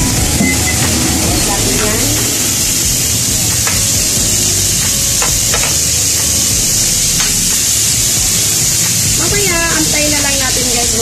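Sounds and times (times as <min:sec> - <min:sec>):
chicken feet sizzling in oil: 0:00.0 - 0:11.0.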